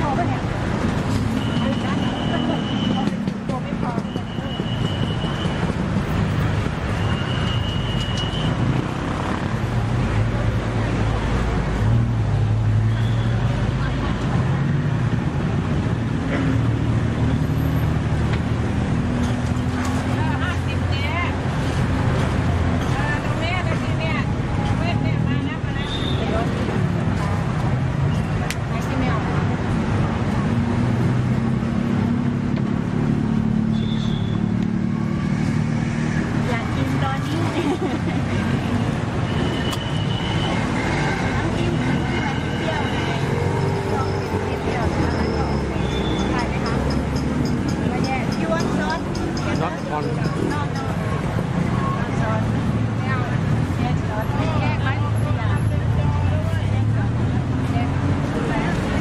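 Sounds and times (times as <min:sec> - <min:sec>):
street noise: 0:00.0 - 0:59.0
traffic engine hum: 0:00.0 - 0:59.0.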